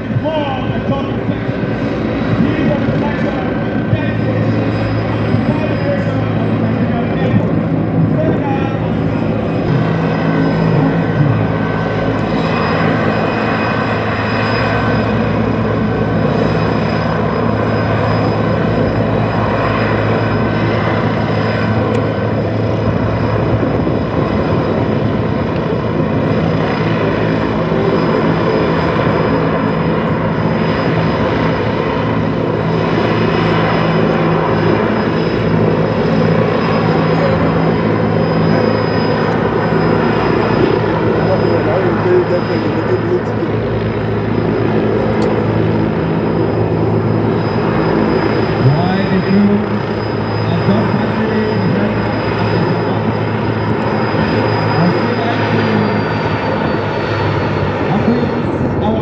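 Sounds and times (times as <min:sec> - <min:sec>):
aircraft engines droning: 0:00.0 - 0:59.0.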